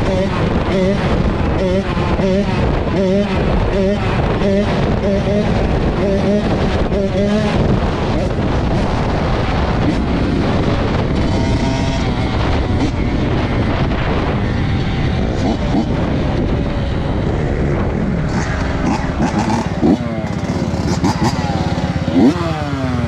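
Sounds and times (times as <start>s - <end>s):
dirt bike engine revving: 0.0s - 23.0s
wind noise on microphone: 0.0s - 23.0s.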